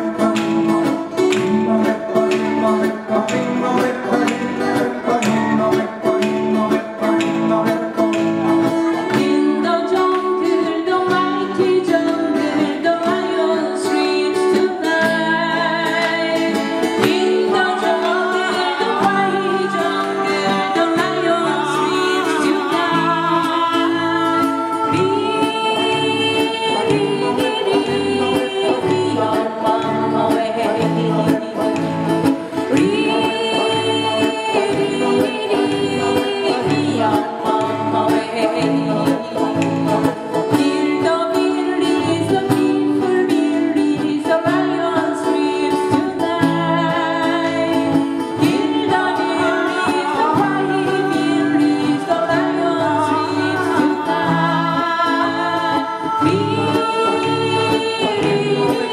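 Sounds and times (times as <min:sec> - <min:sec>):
acoustic guitars strummed: 0:00.0 - 0:58.9
people singing into microphones: 0:00.0 - 0:58.9.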